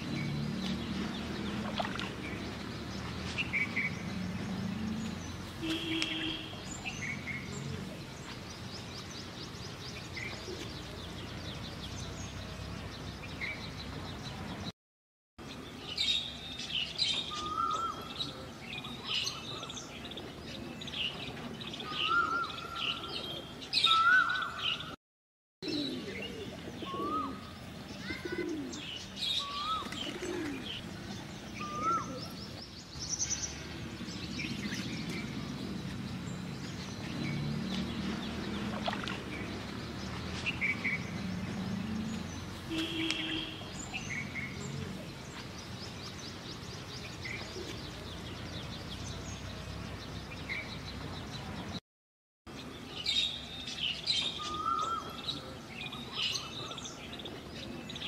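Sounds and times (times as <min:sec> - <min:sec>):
birds chirping: 0:00.0 - 0:14.7, 0:15.4 - 0:25.0, 0:25.6 - 0:51.8, 0:52.5 - 0:58.0.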